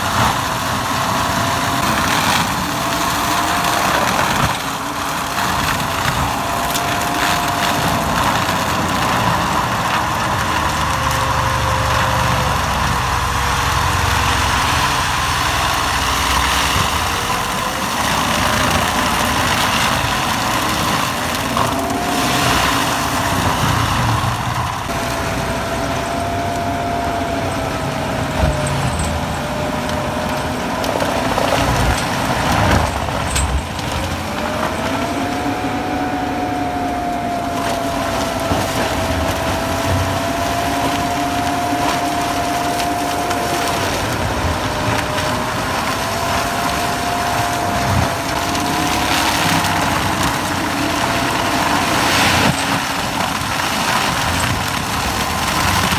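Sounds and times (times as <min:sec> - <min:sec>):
forestry mulcher shredding brush: 0:00.0 - 0:55.9.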